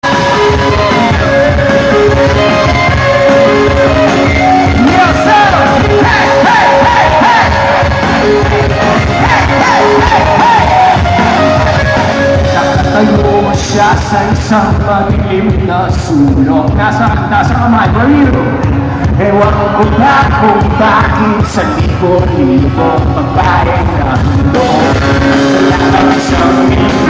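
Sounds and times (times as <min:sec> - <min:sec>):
people singing and yelling: 0:00.0 - 0:16.0, 0:19.1 - 0:27.0
loud pop-rock band: 0:00.0 - 0:27.0.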